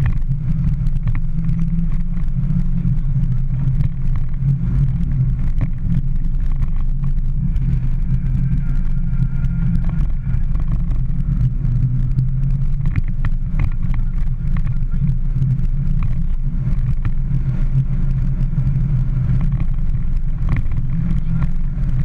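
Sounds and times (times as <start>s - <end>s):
car engine running steadily: 0.0s - 22.0s
road noise: 0.0s - 22.0s.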